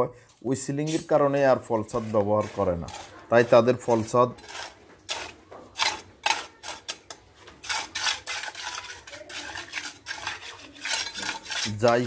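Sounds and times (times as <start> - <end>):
trowel scraping wet concrete: 0.8 - 12.0.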